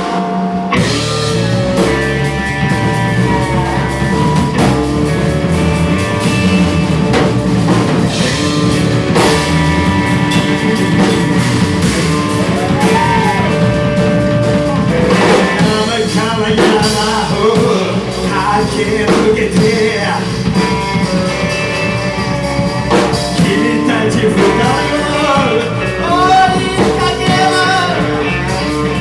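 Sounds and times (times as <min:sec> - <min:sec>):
drum kit: 0:00.0 - 0:29.0
electric guitar: 0:00.0 - 0:29.0
live rock band: 0:00.0 - 0:29.0.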